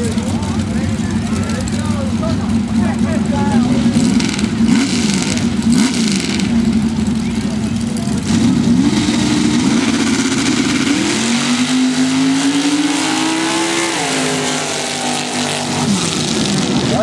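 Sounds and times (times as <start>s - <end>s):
racing engine at full throttle: 0.0s - 17.0s.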